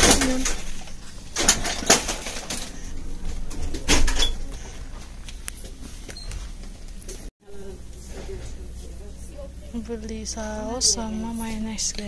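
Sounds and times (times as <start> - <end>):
low steady shop hum: 0.0 - 12.0.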